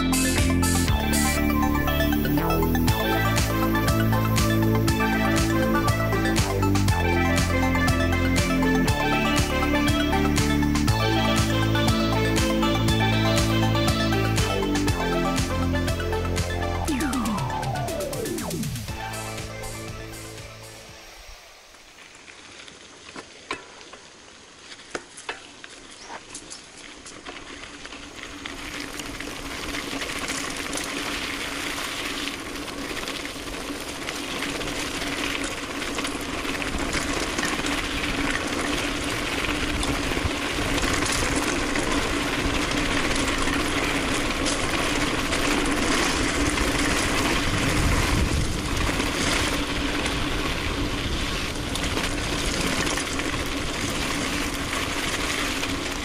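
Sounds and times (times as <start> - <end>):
bike tyre and wind noise: 0.0 - 56.0.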